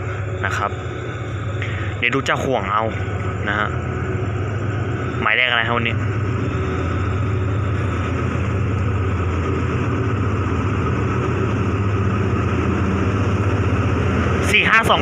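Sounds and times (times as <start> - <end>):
locomotive engine drone: 0.0 - 15.0
rail noise: 0.0 - 15.0.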